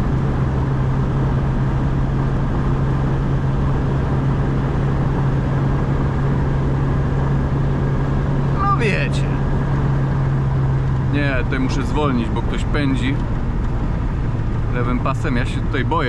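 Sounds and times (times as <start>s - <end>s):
car engine drone: 0.0s - 16.0s
wind and road noise: 0.0s - 16.0s.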